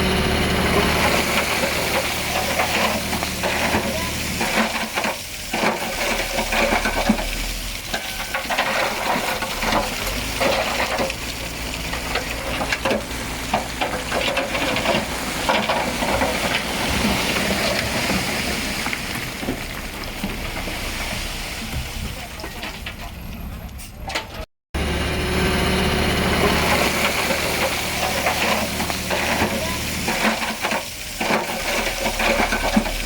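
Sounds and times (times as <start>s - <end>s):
loose stone crackling and rattling: 1.1s - 23.4s, 26.7s - 33.0s.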